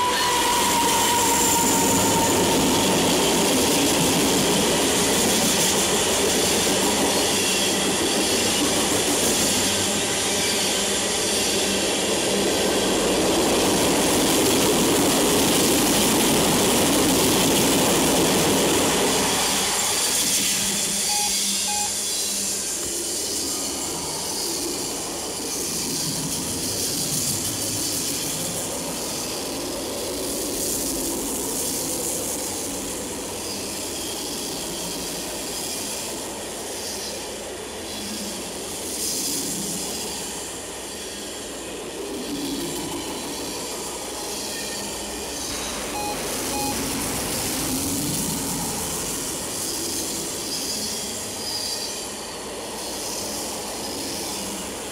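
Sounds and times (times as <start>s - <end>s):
train wheels rushing on rail: 0.0s - 54.9s.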